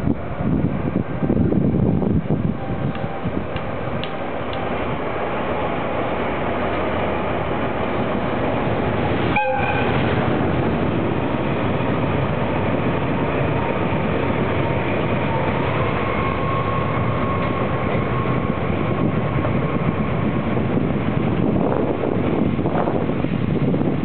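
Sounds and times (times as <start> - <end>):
train rolling on track: 0.0 - 24.0.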